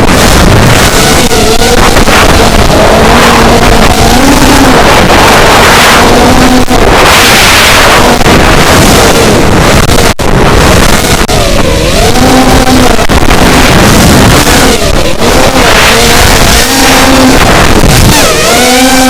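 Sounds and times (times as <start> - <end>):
quadcopter motors buzzing whine: 0.0 - 19.0
wind on microphone: 0.0 - 19.0.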